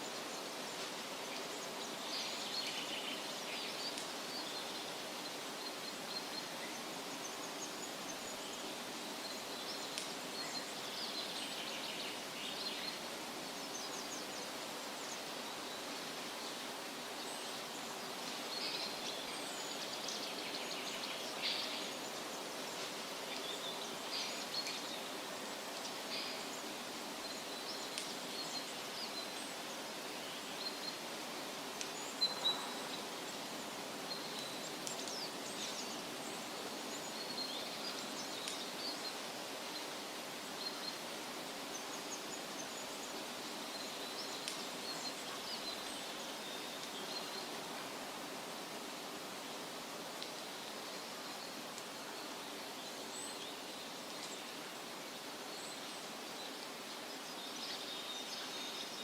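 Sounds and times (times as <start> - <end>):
wind rustling through trees: 0.0 - 59.0.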